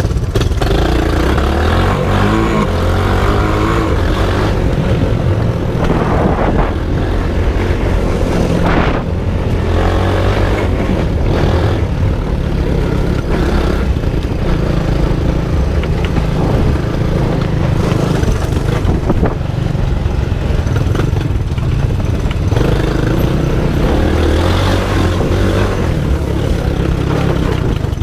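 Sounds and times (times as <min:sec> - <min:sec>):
small off-road vehicle engine running: 0:00.0 - 0:28.0.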